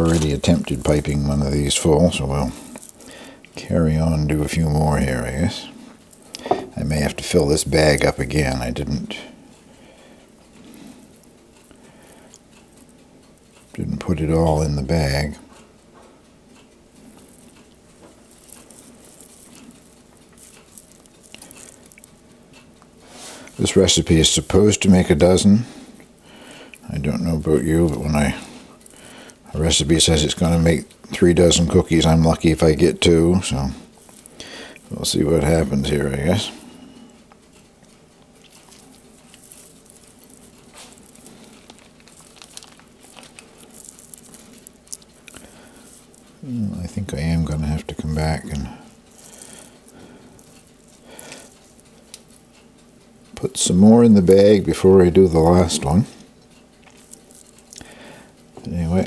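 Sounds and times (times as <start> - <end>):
bag rustling and ticks: 0.0 - 9.1, 10.4 - 59.0
low steady hum: 0.0 - 59.0.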